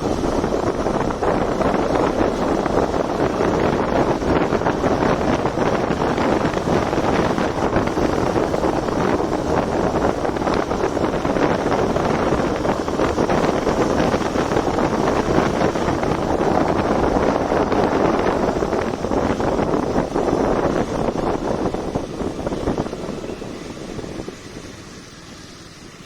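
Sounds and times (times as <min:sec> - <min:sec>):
motorcycle engine running: 0:00.0 - 0:26.0
wind blasting over microphone: 0:00.0 - 0:26.0.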